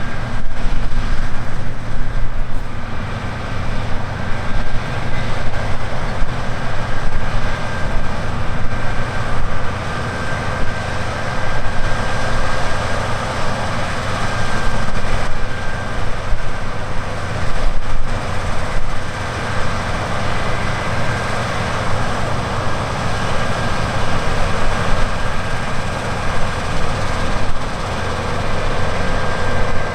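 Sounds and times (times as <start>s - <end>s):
faint steady whine: 0.0s - 29.9s
farm machinery drone: 0.0s - 29.9s.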